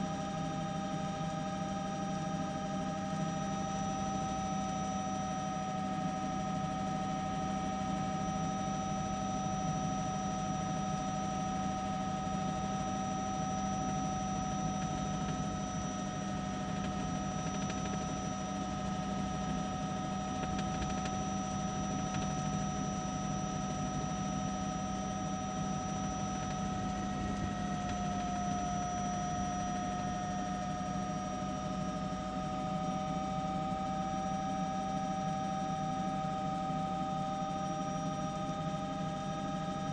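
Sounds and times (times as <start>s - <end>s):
helicopter turbine engine whine: 0.0s - 39.9s.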